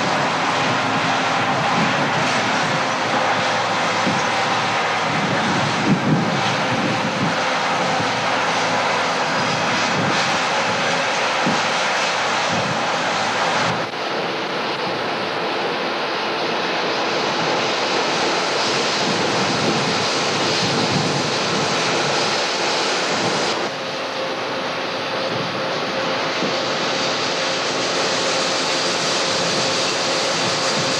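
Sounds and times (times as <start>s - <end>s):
combine harvester engine drone: 0.0s - 30.9s.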